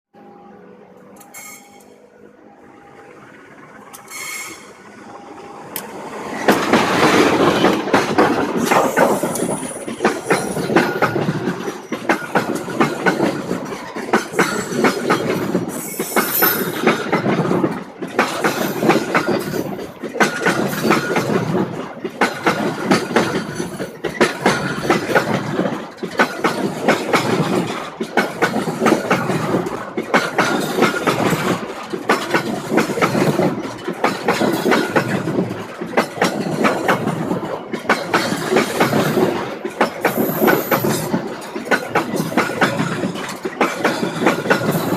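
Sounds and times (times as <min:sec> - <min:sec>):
wheel squealing on rail: 0:01.1 - 0:44.9
train wheels clickety-clack: 0:05.7 - 0:44.9.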